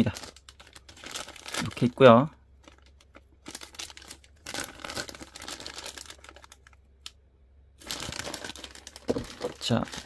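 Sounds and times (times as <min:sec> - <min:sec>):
plastic bag crinkling: 0:00.0 - 0:06.8, 0:07.8 - 0:10.0.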